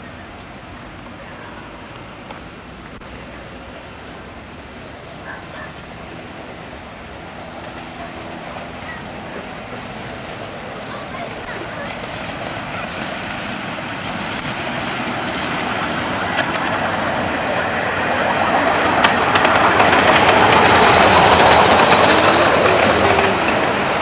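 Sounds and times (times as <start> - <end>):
miniature steam locomotive passing: 0.0 - 24.0
wheels clicking on track: 0.0 - 24.0.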